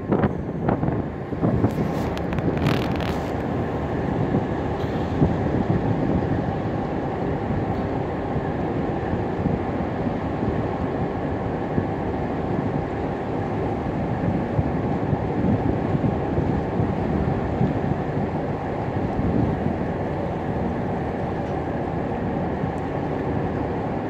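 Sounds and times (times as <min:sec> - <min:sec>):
boat engines rumbling: 0:00.0 - 0:24.0
wind on microphone: 0:00.0 - 0:24.0.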